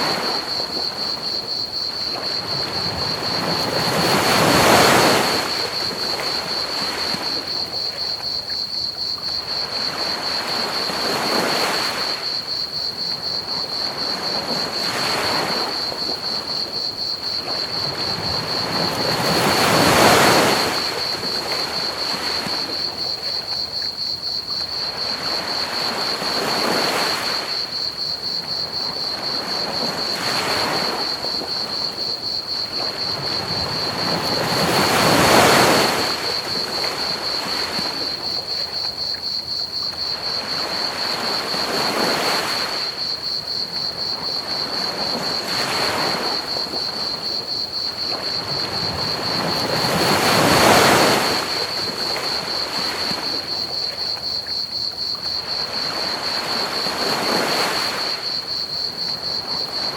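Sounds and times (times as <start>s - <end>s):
ocean waves breaking on beach: 0.0s - 8.2s, 8.8s - 23.4s, 24.6s - 59.9s
crickets trilling: 0.0s - 59.9s.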